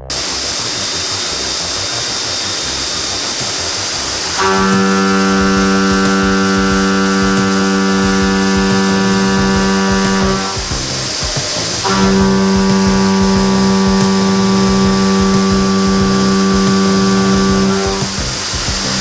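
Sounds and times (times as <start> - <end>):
milling machine hiss: 0.0 - 19.0
steady humming tone: 0.0 - 19.0.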